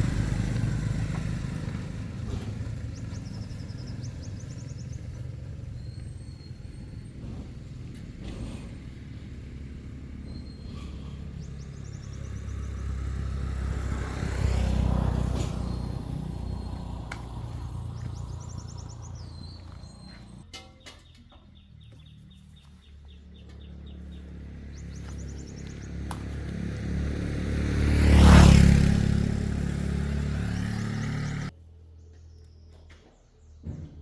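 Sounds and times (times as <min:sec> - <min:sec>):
vehicle passing by: 0:00.0 - 0:20.4, 0:21.8 - 0:31.5
birds chirping: 0:00.0 - 0:33.9.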